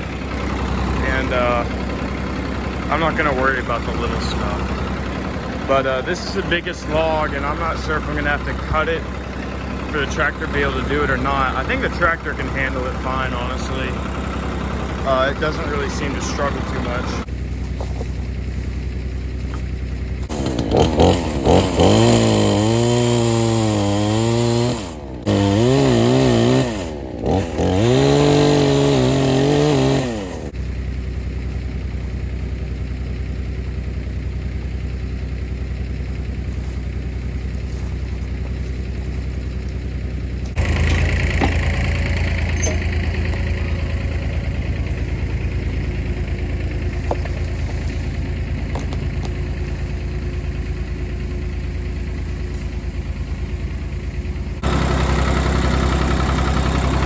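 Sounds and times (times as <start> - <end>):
log dragging: 0.0 - 26.6, 35.8 - 57.0
tractor diesel engine: 0.0 - 57.0.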